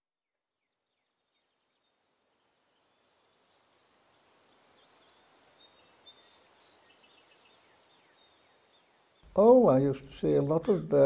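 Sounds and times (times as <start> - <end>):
small birds chirping: 0.5 - 11.0
steady high hiss: 1.0 - 11.0.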